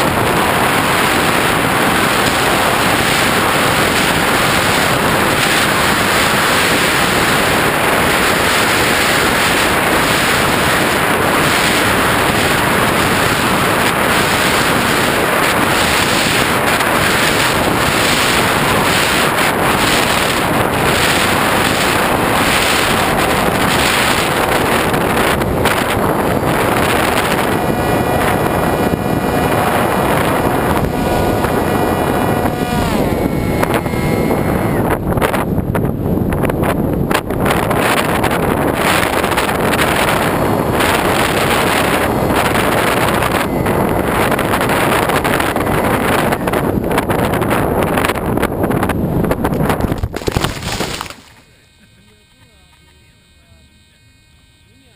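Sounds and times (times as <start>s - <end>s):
wind rushing over microphone: 0.0s - 51.3s
motor and propeller whine: 0.0s - 54.9s.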